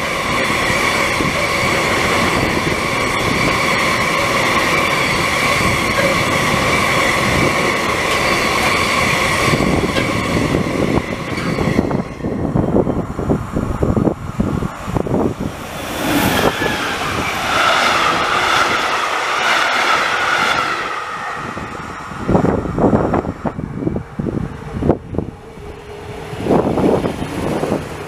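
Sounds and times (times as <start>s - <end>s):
freight train wheel squeal: 0.0s - 13.3s, 15.2s - 28.0s
electric locomotive passing: 0.0s - 28.0s.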